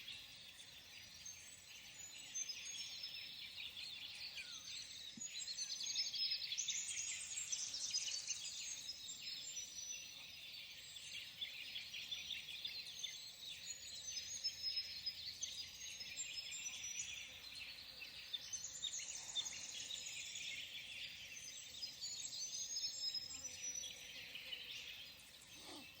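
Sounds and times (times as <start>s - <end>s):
small birds chirping chorus: 0.0s - 26.0s.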